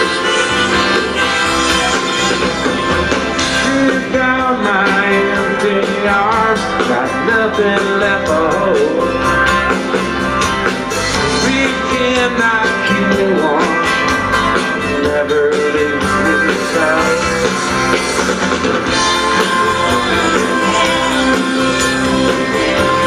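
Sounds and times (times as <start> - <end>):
acoustic guitar: 0.0 - 23.0
live country-rock band playing: 0.0 - 23.0.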